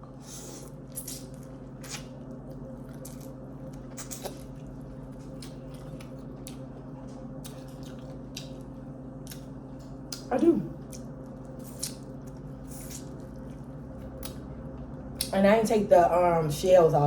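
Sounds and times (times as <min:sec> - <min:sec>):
steady low hum: 0:00.0 - 0:17.0
wet squishing of shrimp eaten: 0:00.2 - 0:15.3.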